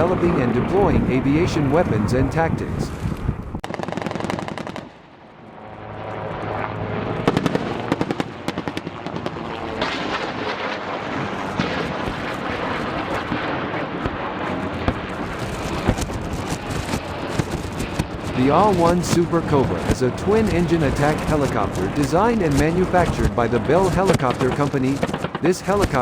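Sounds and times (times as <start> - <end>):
helicopter rotor and engine: 3.7 - 26.0.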